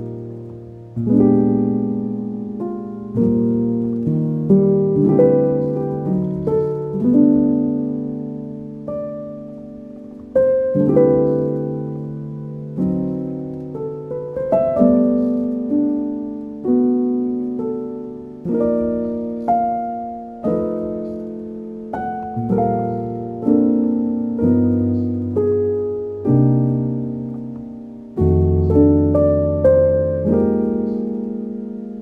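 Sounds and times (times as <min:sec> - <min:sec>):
slow solo piano music: 0:00.0 - 0:32.0.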